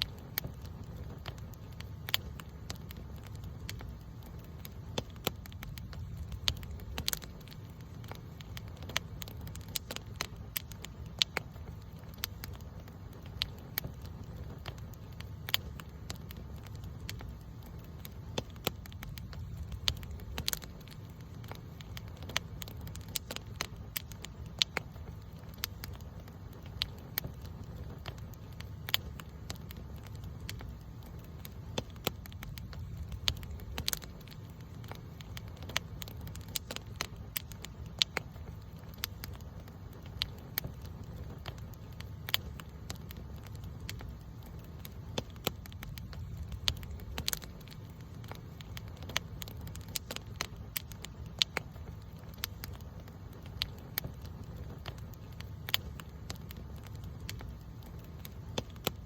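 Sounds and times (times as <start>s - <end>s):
burning wood crackling and popping: 0.0s - 59.0s
low rumble of flame: 0.0s - 59.0s.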